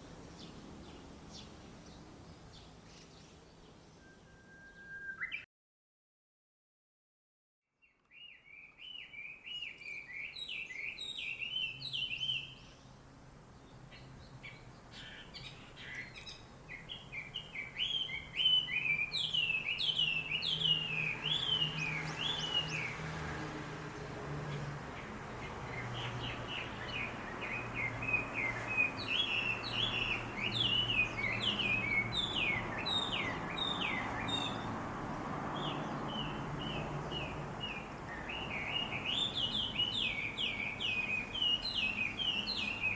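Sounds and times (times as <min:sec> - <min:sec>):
birds chirping and singing: 0:00.0 - 0:05.4, 0:08.0 - 0:12.9, 0:13.6 - 0:23.0, 0:24.5 - 0:34.8, 0:35.5 - 0:42.9.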